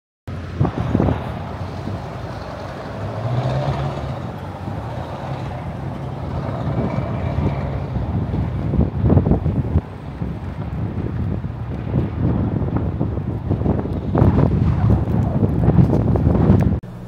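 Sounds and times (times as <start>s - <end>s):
cars driving past: 0.3s - 15.2s.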